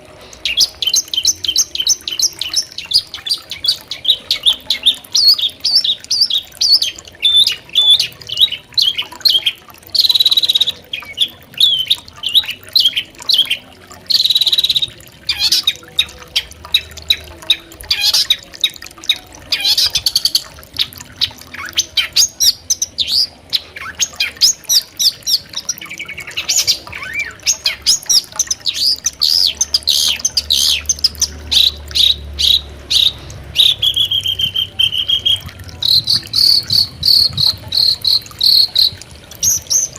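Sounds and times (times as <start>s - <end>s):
bird chattering song: 0.2s - 39.9s.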